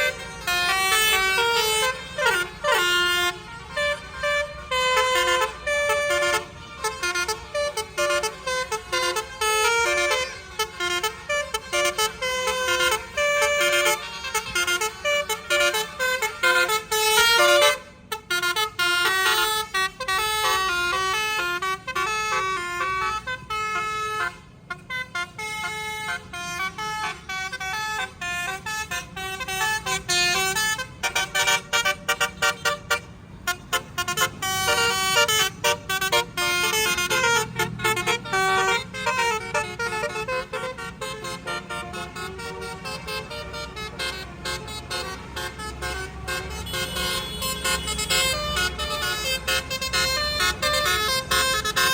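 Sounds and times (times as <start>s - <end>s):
bus musical air horn tune: 0.0s - 51.9s.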